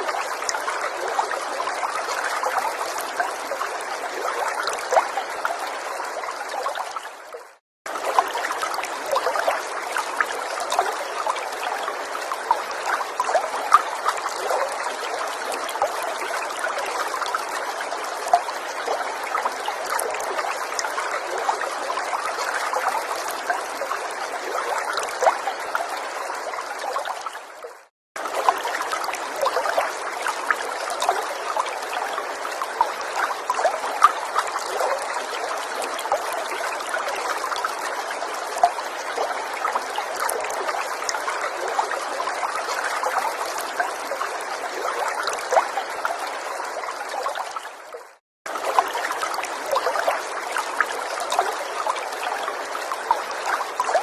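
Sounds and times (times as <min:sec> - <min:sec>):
forest stream trickling: 0:00.0 - 0:54.0.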